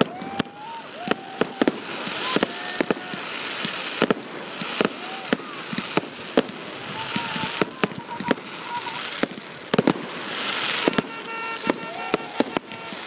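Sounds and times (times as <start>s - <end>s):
fireworks bangs and pops: 0.0s - 13.0s
fireworks crackling hiss: 0.0s - 13.0s.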